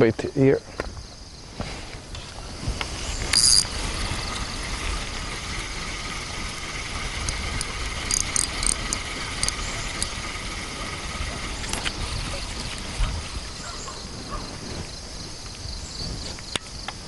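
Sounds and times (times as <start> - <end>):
insects chirring: 0.0 - 17.0
low rumble: 2.0 - 16.0.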